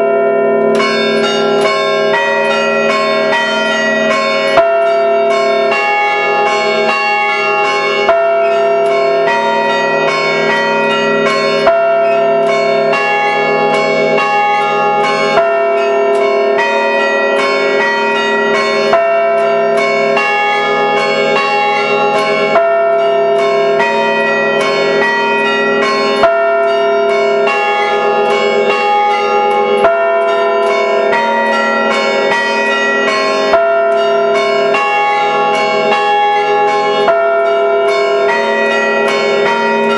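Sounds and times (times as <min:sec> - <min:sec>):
church bells chiming: 0:00.0 - 0:39.9.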